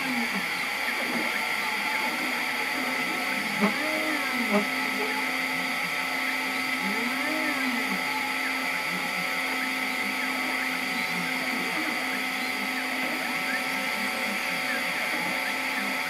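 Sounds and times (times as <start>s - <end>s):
steady whirring hum: 0.0s - 16.0s
stepper motors whining: 0.0s - 16.0s.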